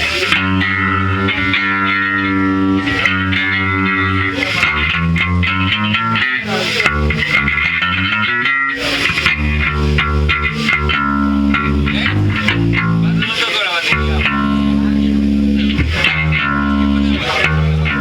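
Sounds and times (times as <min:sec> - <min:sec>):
rock music with distorted guitar: 0:00.0 - 0:18.0.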